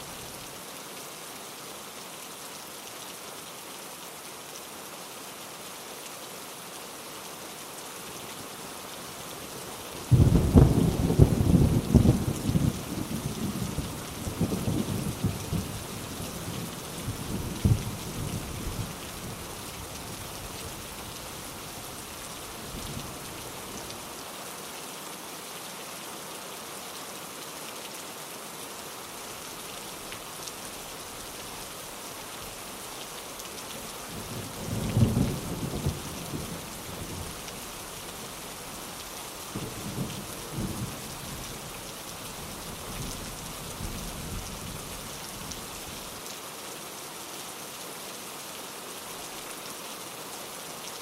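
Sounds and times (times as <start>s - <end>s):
steady rain hissing: 0.0s - 51.0s.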